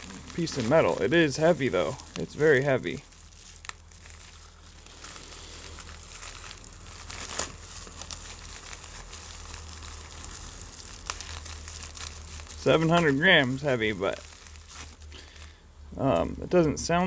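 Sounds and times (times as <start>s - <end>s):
packaging clicks: 0.0s - 15.6s
packaging crinkling: 0.0s - 17.0s.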